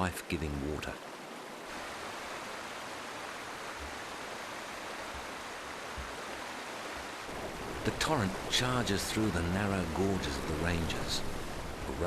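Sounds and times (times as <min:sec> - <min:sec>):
flooding river rushing: 0:00.0 - 0:12.0.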